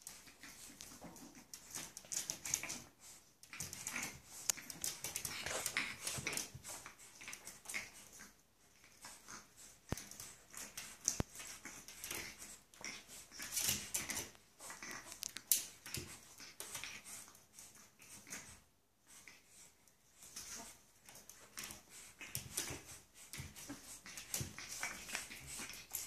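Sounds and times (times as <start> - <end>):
puppy vocal sounds: 0.0 - 26.0.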